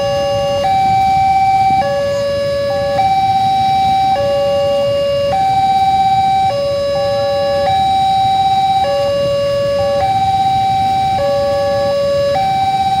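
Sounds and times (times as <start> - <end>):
idling vehicle engines rumble: 0.0 - 13.0
two-tone crossing alarm: 0.0 - 13.0.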